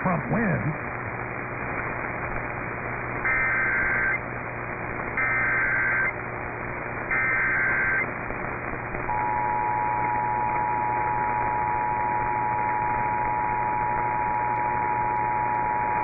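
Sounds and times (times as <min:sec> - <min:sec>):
radio hiss: 0:00.0 - 0:16.0.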